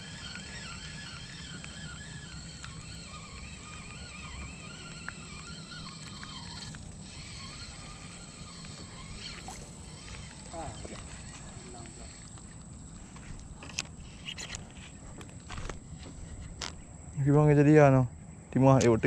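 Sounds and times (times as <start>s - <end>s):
faint bird calls: 0.0s - 16.9s.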